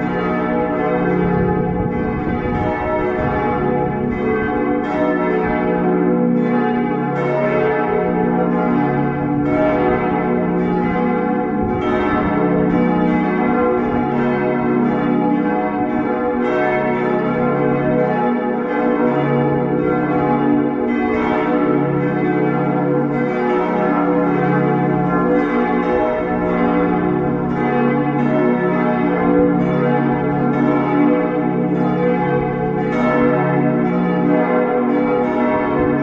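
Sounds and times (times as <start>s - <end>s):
church bells pealing: 0.0s - 36.0s.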